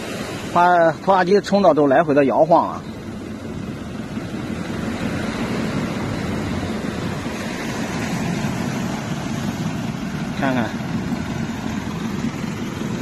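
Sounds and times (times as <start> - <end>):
engine running steadily: 0.0 - 13.0
surf washing on shore: 0.0 - 13.0.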